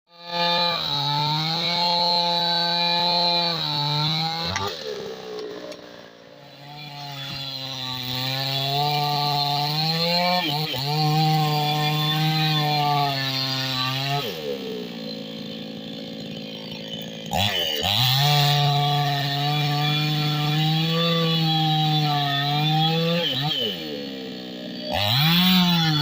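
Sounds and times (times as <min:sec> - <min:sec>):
chainsaw running at high revs: 0:00.1 - 0:26.0.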